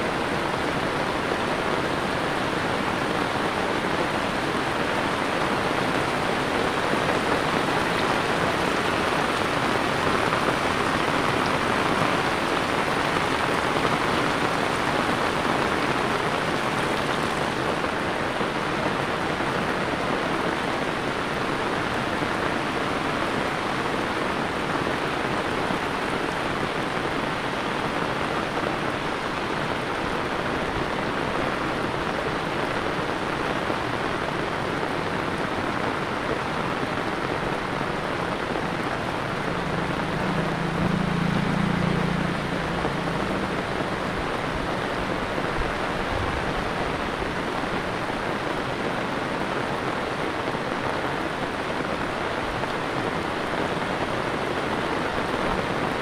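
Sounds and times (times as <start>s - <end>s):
heavy rain on wet paving: 0.0s - 56.0s.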